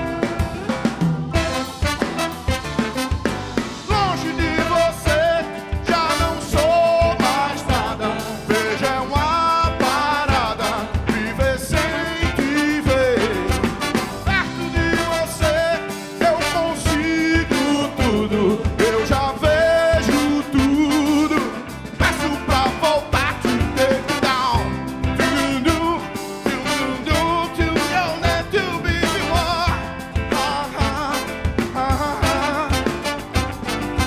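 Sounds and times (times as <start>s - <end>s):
drum kit: 0.0s - 34.0s
electric guitars: 0.0s - 34.0s
horn section: 0.0s - 34.0s
keyboard: 0.0s - 34.0s
man singing with vibrato: 0.0s - 34.0s.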